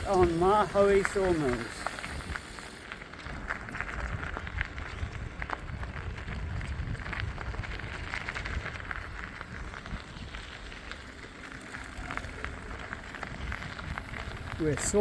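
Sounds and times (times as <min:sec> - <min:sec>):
vehicle rolling over gravel: 0:00.0 - 0:15.0.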